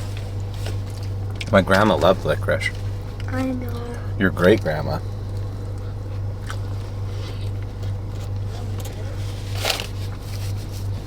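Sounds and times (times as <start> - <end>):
car hum: 0.0 - 11.0
chewing and eating noises: 0.0 - 11.0.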